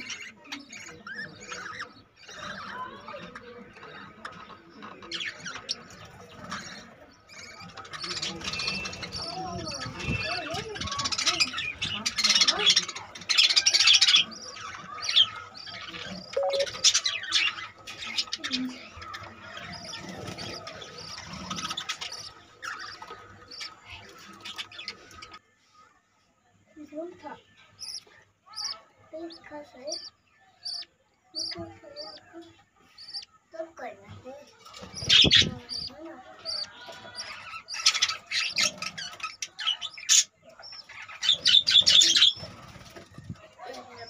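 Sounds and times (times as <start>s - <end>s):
budgerigars chirping: 0.0s - 25.4s, 27.6s - 33.3s, 34.6s - 43.0s.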